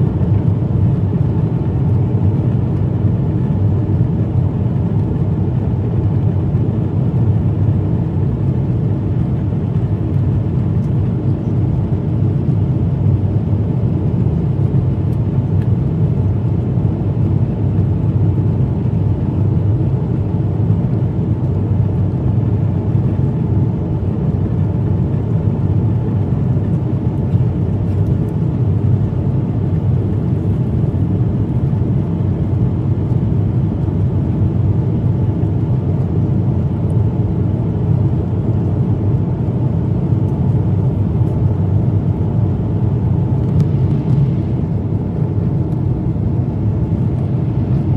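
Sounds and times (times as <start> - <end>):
jet cabin engine rumble: 0.0 - 47.9.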